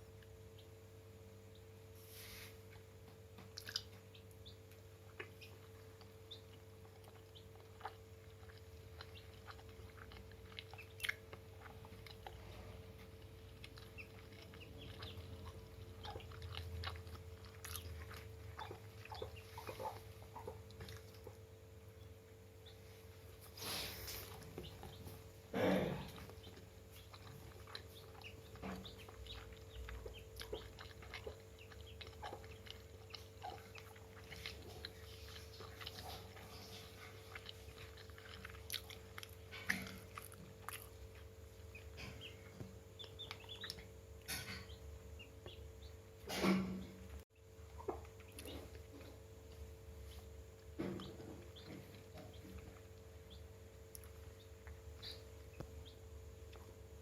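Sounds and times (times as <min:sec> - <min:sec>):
steady low hum: 0:00.0 - 0:57.0
chickens pecking ticks: 0:02.6 - 0:57.0.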